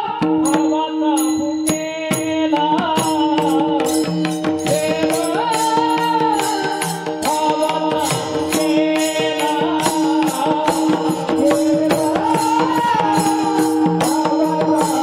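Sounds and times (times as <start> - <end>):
percussion beats: 0.0 - 15.0.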